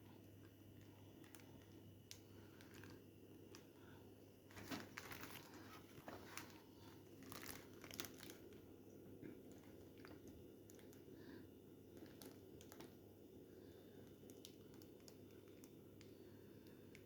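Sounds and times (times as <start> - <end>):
low steady hum: 0.0 - 17.0
objects crinkling and clicking: 0.1 - 3.7, 4.5 - 11.1, 11.9 - 13.0, 14.0 - 17.0.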